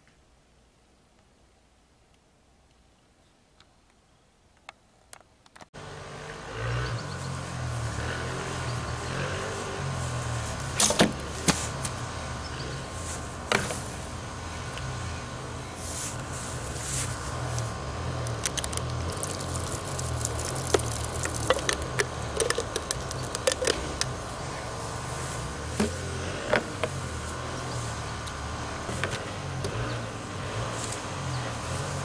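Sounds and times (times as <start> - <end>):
steady low hum: 5.8 - 32.0.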